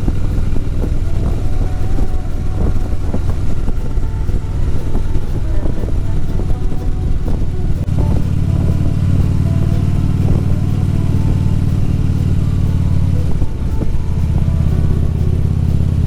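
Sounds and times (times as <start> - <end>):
motorcycle engine running: 0.0 - 16.0
wind rush: 0.0 - 16.0.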